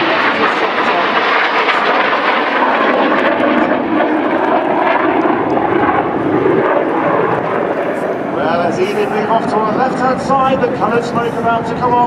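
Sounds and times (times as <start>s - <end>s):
jet engines flying overhead: 0.0s - 12.0s.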